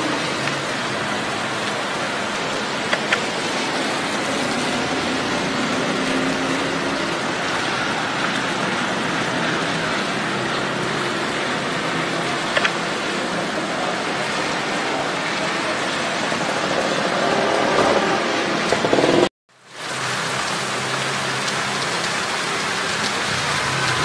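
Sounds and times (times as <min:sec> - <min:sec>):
rain on wet pavement: 0:00.0 - 0:24.0
traffic on wet streets: 0:00.0 - 0:24.0.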